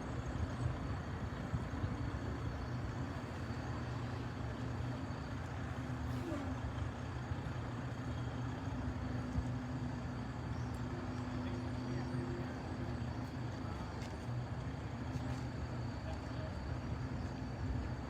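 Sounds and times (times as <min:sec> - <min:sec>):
heavy vehicle engine droning: 0:00.0 - 0:18.0
traffic noise: 0:00.0 - 0:18.0.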